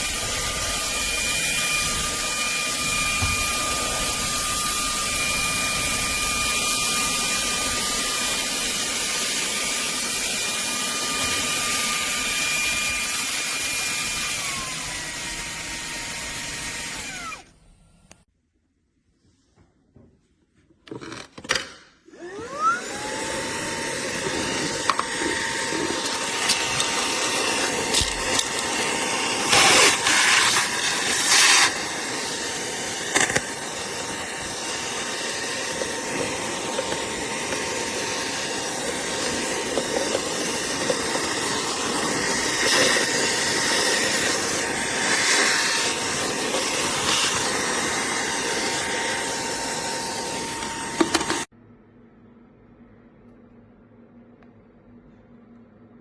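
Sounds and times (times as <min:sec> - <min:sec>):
handheld vacuum motor whine: 0:00.0 - 0:18.3, 0:22.1 - 0:51.5.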